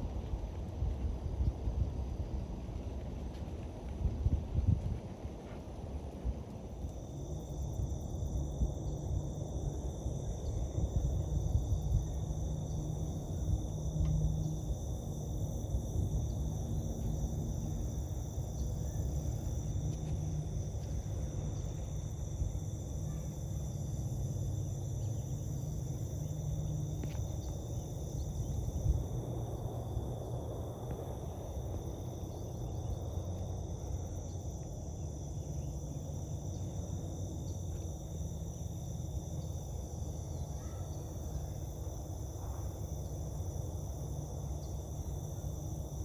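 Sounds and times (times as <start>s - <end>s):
constant low rumble: 0.0s - 46.0s
insect chorus: 6.5s - 46.0s.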